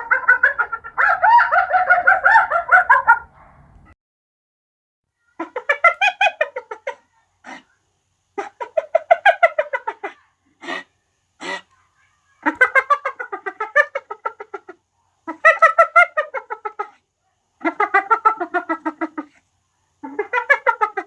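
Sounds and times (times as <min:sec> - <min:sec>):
hyena giggling yelps: 0:00.0 - 0:03.3, 0:05.4 - 0:07.8, 0:08.4 - 0:11.7, 0:12.4 - 0:21.0.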